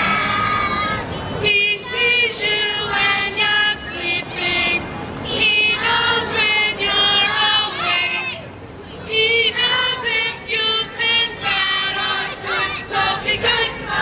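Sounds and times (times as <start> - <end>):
high voices singing through loudspeaker: 0.0 - 14.0.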